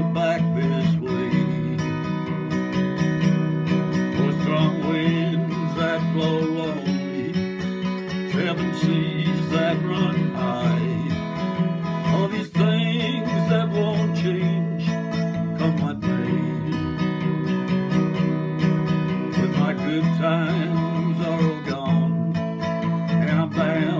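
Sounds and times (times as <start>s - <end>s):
man singing: 0.0s - 2.2s, 3.9s - 17.3s, 19.1s - 23.9s
acoustic guitar strumming: 0.0s - 23.9s.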